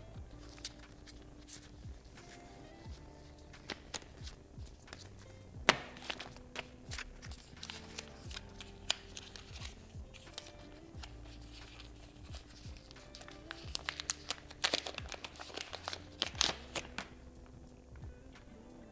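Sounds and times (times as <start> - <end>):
soft background music with beat: 0.0 - 18.9
packaging clicks and rustles: 0.4 - 17.2.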